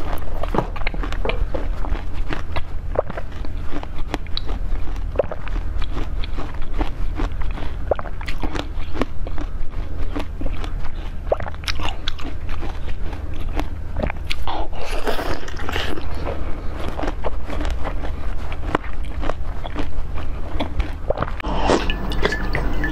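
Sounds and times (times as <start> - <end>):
steady low hum: 0.0 - 22.9
teeth crunching ice: 0.0 - 22.9.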